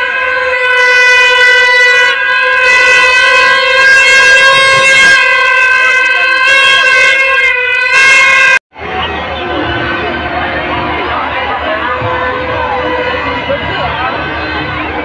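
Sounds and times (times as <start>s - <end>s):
loud steady horn tone: 0.0s - 15.0s.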